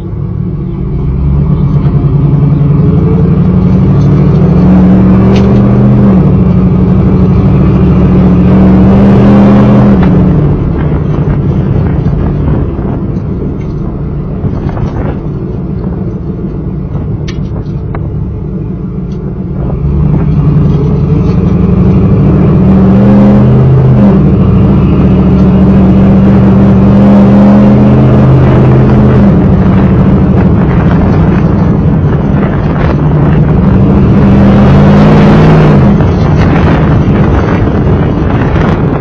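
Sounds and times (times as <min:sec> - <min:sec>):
car engine exhaust note: 0:00.0 - 0:39.0.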